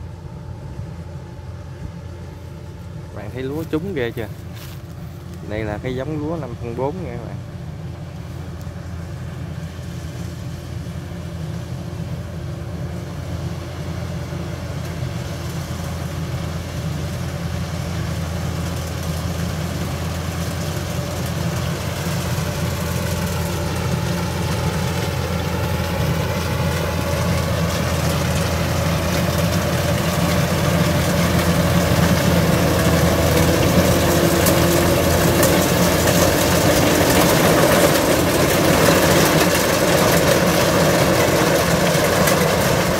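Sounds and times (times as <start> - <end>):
combine harvester droning: 0.0 - 42.9.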